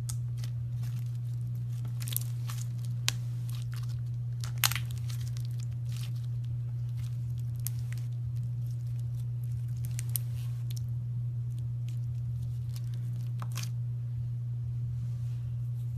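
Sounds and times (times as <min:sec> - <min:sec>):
slime crackling and popping: 0:00.0 - 0:13.7
steady low hum: 0:00.0 - 0:15.9.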